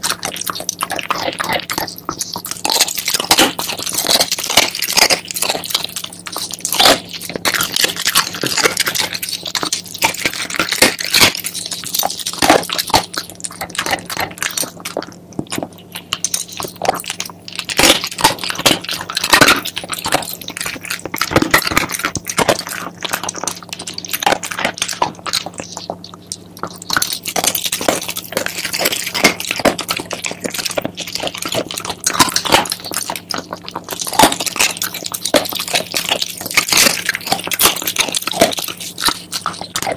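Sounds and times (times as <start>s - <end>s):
dog crunching bones: 0.0s - 39.9s.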